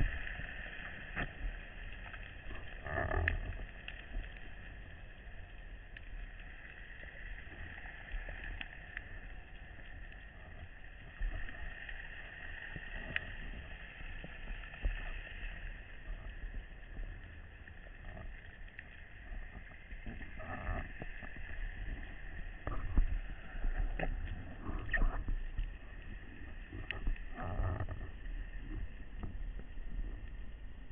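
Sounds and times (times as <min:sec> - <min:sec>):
faint underwater clicks: 0:00.0 - 0:30.9
muffled underwater hiss: 0:00.0 - 0:30.9.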